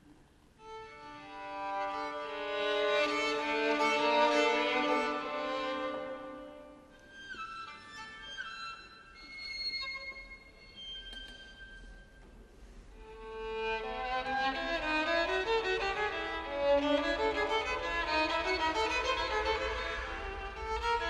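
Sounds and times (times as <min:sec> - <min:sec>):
solo violin melody: 0:00.6 - 0:12.0, 0:13.0 - 0:21.0.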